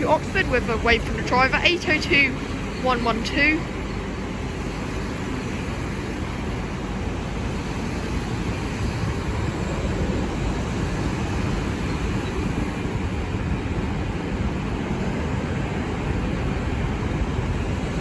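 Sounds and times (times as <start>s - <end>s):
train pulling into platform: 0.0s - 18.0s.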